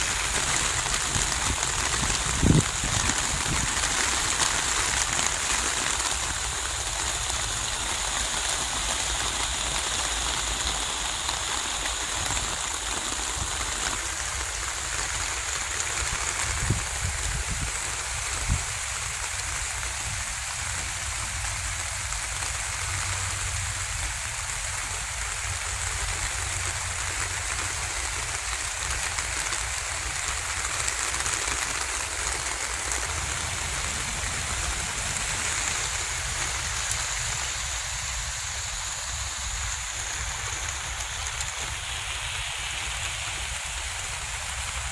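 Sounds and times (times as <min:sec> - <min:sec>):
steady even hiss: 0:00.0 - 0:44.9.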